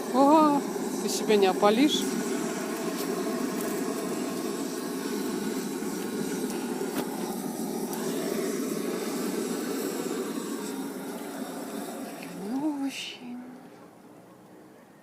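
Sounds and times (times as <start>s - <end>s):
charcoal crackling: 0.0s - 13.0s
gas torch roaring: 0.0s - 14.6s.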